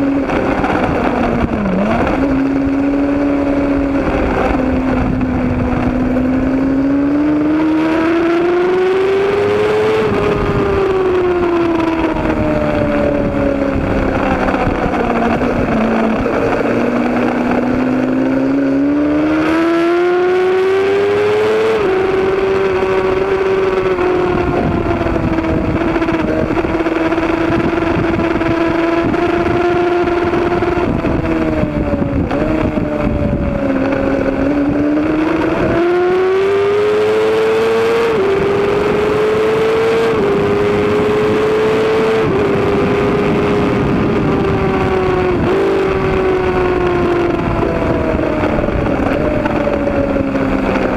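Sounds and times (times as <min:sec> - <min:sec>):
racing motorcycle engine: 0:00.0 - 0:50.9.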